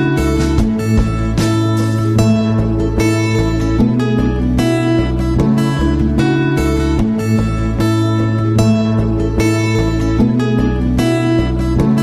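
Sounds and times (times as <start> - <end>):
guitar chords: 0.0 - 12.0
steady bass: 0.0 - 12.0.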